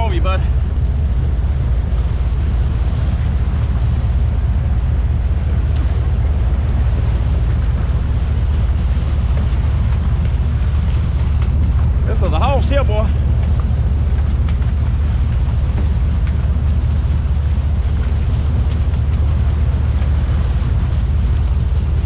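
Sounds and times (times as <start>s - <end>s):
boat diesel engines droning: 0.0s - 22.0s
boat wake rushing: 0.0s - 22.0s
wind: 0.0s - 22.0s.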